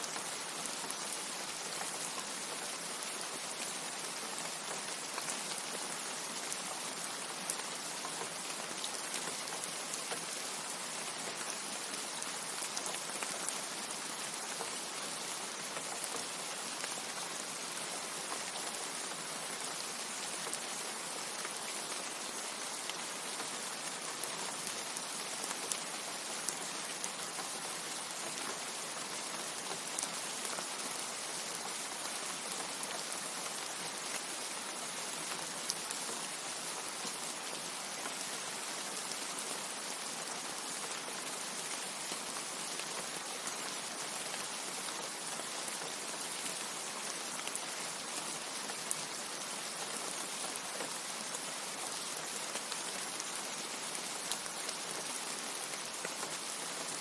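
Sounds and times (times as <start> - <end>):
rain drops ticking: 0.0 - 57.0
steady rain hiss: 0.0 - 57.0.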